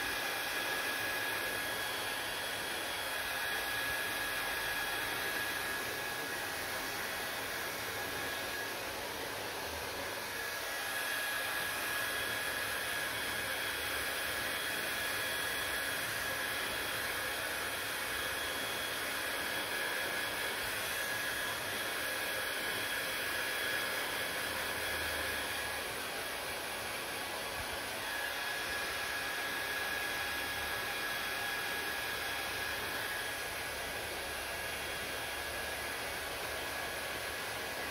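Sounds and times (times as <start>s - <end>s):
hair dryer blowing air: 0.0s - 37.9s.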